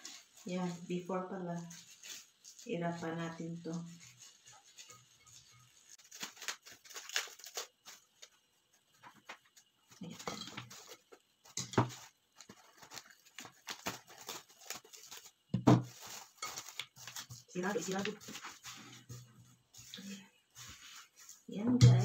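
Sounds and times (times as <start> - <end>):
cling wrap crinkling: 0.0 - 22.0.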